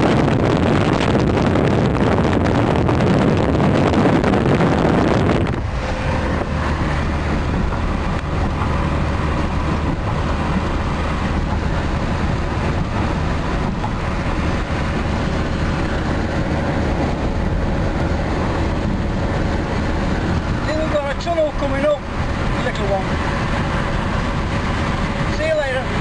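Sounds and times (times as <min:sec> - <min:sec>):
tyre and wind noise: 0:00.0 - 0:26.0
van engine drone: 0:00.0 - 0:26.0.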